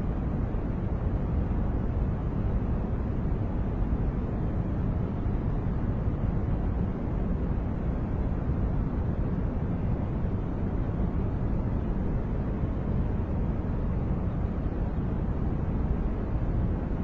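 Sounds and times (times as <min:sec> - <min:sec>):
white noise: 0:00.0 - 0:17.0.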